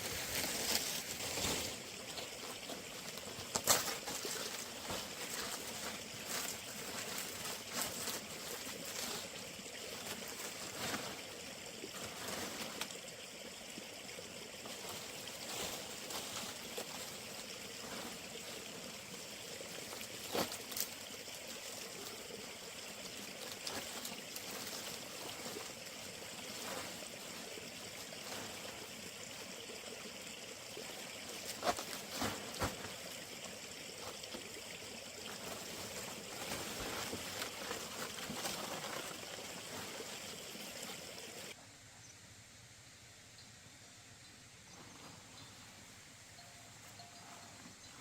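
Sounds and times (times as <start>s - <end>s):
water trickling: 0.2s - 41.6s.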